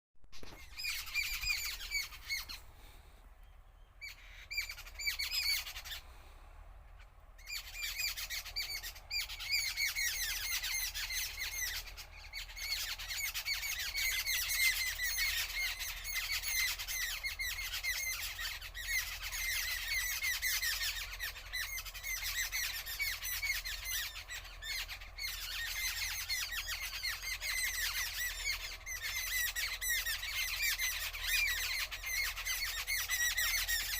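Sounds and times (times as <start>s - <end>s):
birds chirping in chorus: 0.3s - 33.9s.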